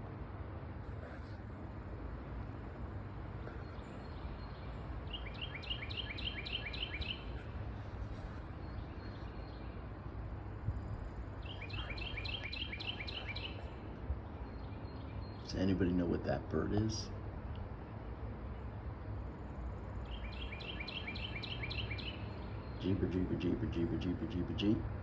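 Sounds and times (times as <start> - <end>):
low background rumble: 0.0 - 20.2
songbird chirping: 1.0 - 24.8.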